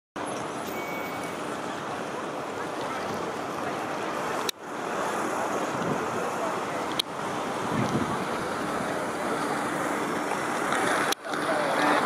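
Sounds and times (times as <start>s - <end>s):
steady rushing outdoor noise: 0.2s - 12.0s.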